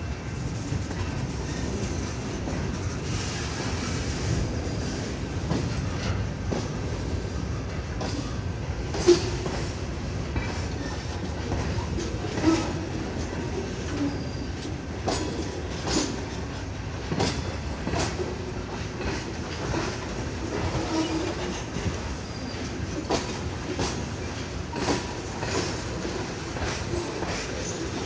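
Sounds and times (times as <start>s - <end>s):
steel wheels rumbling on rail: 0.0s - 28.0s
clickety-clack of wheels: 0.4s - 28.0s.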